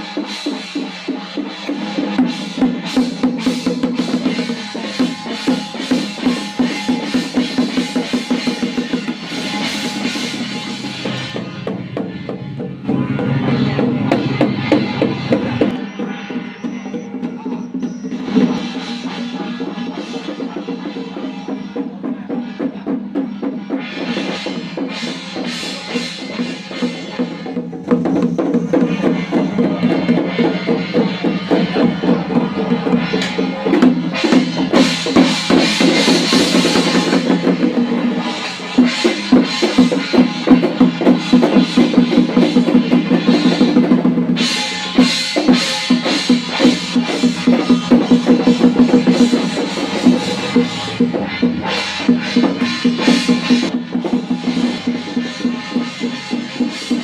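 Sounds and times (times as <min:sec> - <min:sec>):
rapid drum strokes: 0:00.0 - 0:57.0.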